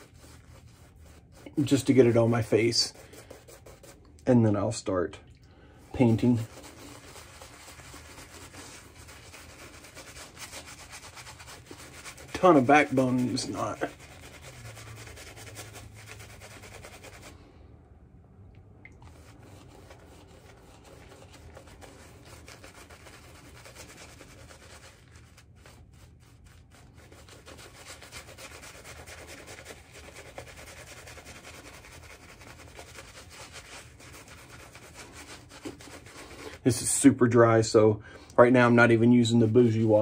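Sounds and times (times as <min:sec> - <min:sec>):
shaving brush scrubbing: 0:00.0 - 0:04.1, 0:05.8 - 0:17.5, 0:19.0 - 0:37.1, 0:38.6 - 0:40.0.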